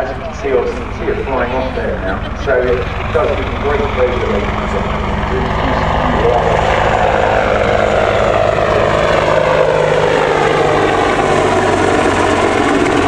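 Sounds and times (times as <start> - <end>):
helicopter flying: 0.0 - 13.0.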